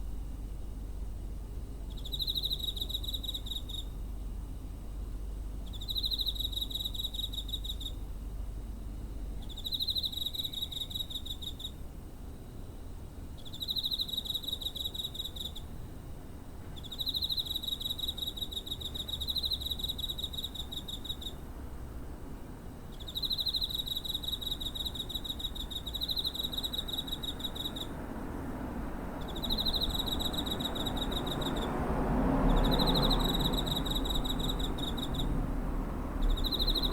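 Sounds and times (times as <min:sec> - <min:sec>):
cricket trilling: 0:01.6 - 0:04.6, 0:05.5 - 0:21.6, 0:22.2 - 0:36.9.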